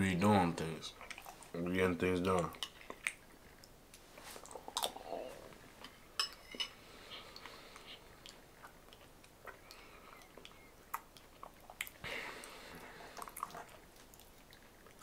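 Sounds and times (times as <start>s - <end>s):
chewing soggy food: 0.9s - 1.6s, 2.3s - 6.0s, 6.8s - 15.0s.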